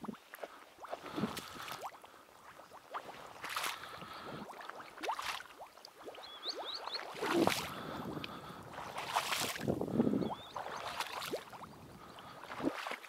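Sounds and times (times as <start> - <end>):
splashing: 0.0 - 13.0
water gurgling and sloshing: 0.0 - 13.0.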